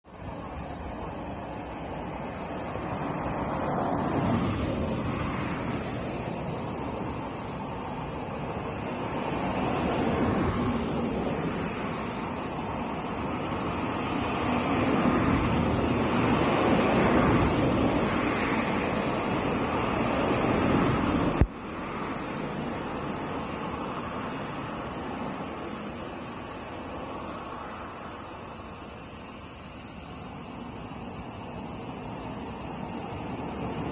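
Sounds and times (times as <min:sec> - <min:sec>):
cicadas buzzing: 0:00.0 - 0:33.9
passing road traffic: 0:00.1 - 0:28.5, 0:31.0 - 0:33.9.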